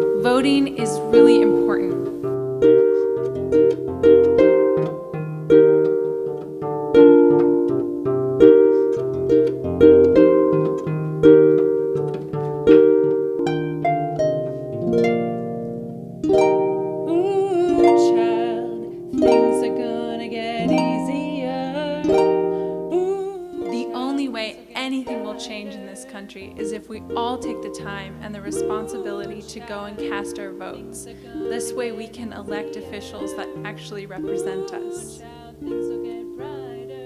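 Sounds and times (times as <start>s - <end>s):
plucked harp-like string chords: 0.0s - 37.0s
wavering higher notes: 0.0s - 37.0s.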